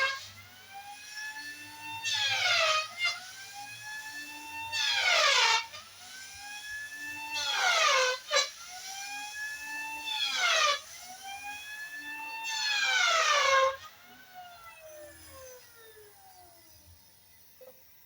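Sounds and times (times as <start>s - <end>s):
electric planer whining: 0.0s - 17.8s.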